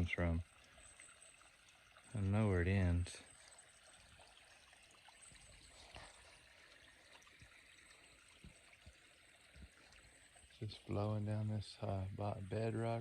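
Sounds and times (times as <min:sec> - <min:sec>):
water trickling over rock: 0:00.0 - 0:13.0.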